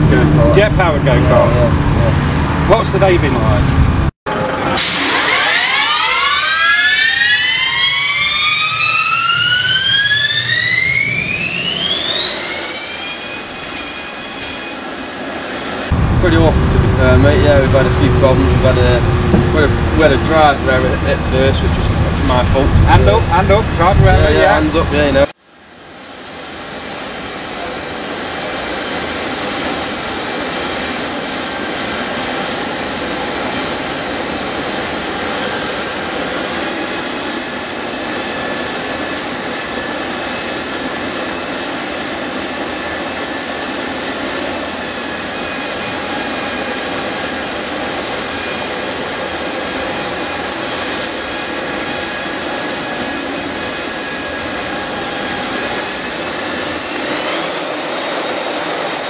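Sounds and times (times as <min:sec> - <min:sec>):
jet engine whine: 0:00.0 - 0:59.0.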